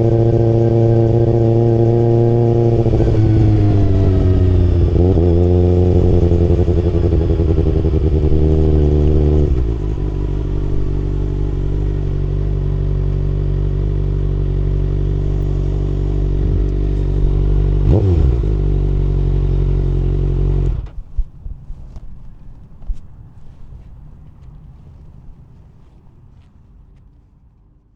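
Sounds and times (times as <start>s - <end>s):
motorcycle engine idling: 0.9s - 26.9s.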